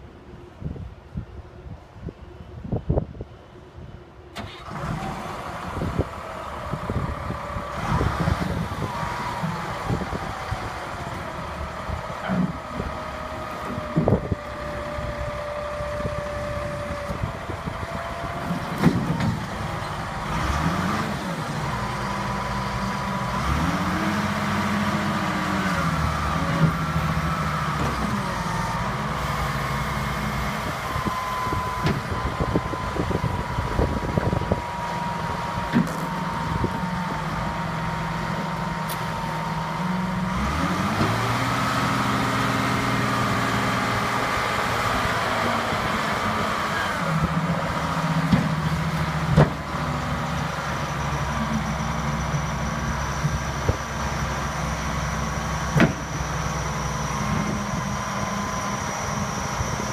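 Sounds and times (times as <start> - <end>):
diesel engine revving: 4.4 - 59.9.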